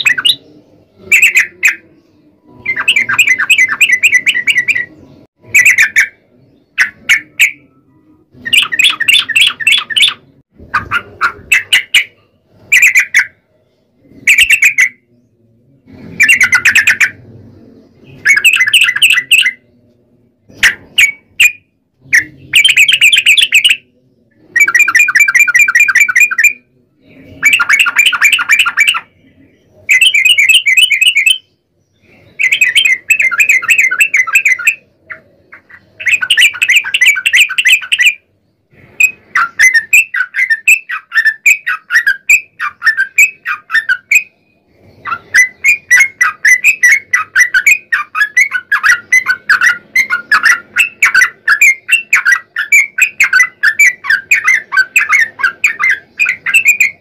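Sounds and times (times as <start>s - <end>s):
bird chirps: 0.0s - 57.0s
bulbul singing warbled phrases: 0.0s - 57.0s.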